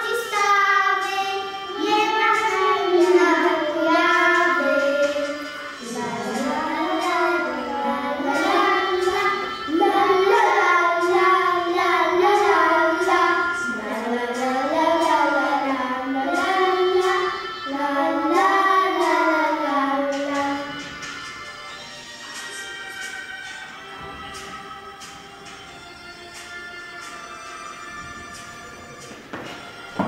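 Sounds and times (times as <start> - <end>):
young children singing: 0.0 - 30.0.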